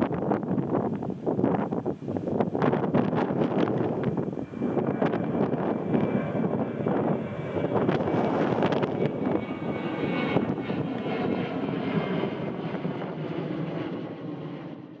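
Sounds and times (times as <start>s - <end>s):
wind buffeting microphone: 0.0s - 14.2s
airplane engine noise: 0.0s - 15.0s.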